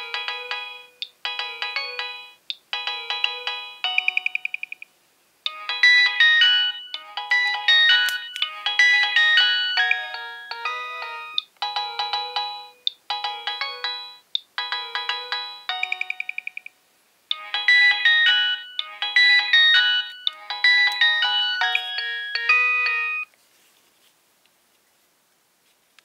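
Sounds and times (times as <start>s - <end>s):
polyphonic phone ringtone: 0.0s - 4.9s, 5.5s - 16.7s, 17.3s - 23.3s.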